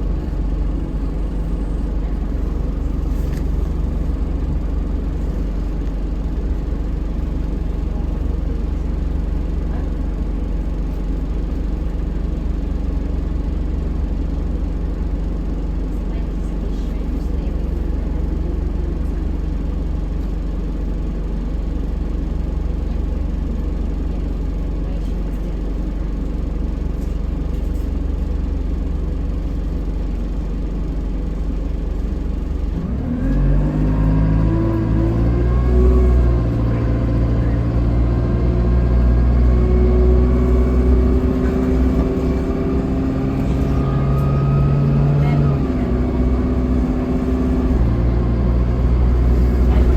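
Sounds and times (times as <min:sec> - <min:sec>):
bus diesel engine idling and revving: 0:00.0 - 0:49.9.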